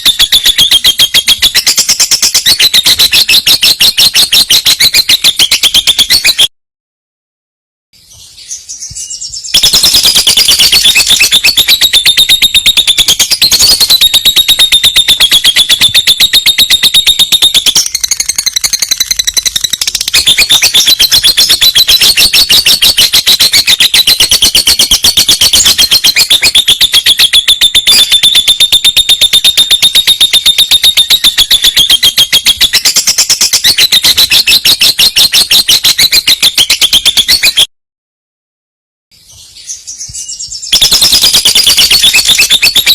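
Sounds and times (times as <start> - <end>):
bird trilling: 0.0 - 6.5, 8.8 - 37.7, 40.0 - 42.9.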